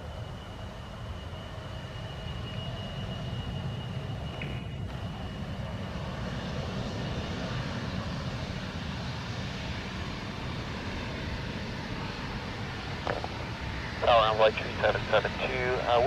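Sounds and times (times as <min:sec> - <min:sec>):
aircraft engines running: 0:00.0 - 0:16.0.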